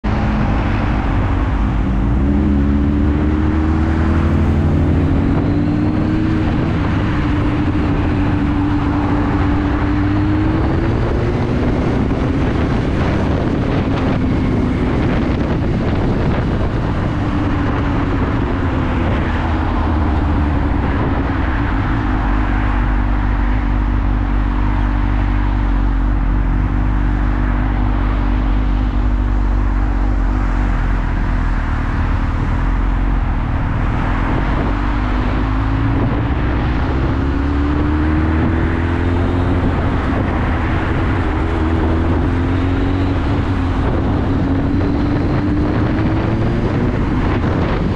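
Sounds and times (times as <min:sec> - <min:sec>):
wind and road noise: 0:00.0 - 0:47.9
motorcycle engine revving: 0:01.2 - 0:31.1, 0:32.0 - 0:47.9.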